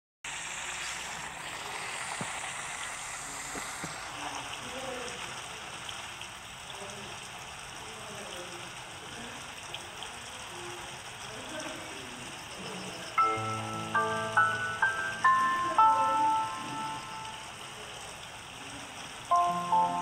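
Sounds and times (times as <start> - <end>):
steady rain falling: 0.2 - 20.0.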